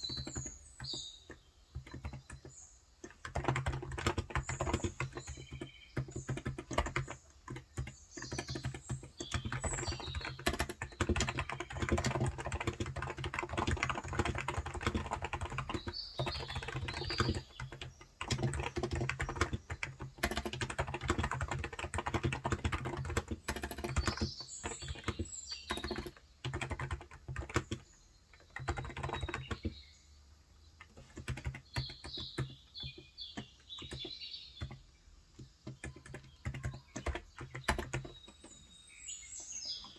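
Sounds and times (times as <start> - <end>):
fast typing on keyboard: 0.0 - 29.8, 30.8 - 38.7
birds chirping: 0.0 - 39.9.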